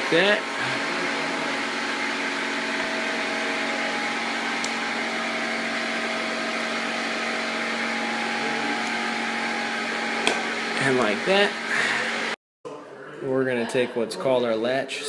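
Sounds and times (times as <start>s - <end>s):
machine motor humming: 0.0s - 12.4s.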